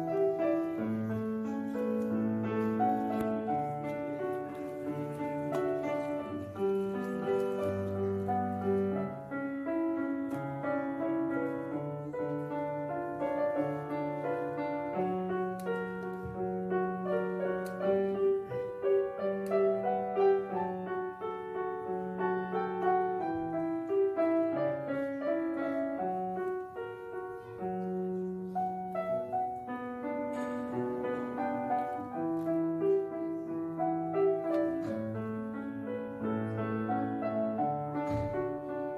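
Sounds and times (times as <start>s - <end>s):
slow piano music: 0.0s - 38.9s.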